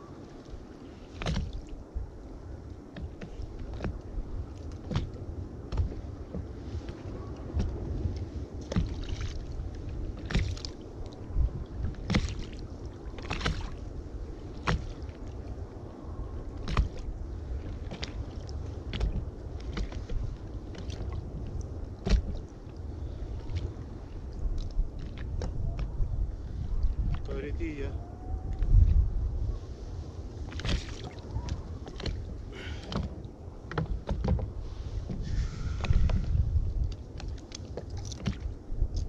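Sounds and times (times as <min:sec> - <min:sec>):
water lapping against boat: 0:00.0 - 0:39.0
wind buffeting microphone: 0:00.0 - 0:39.0.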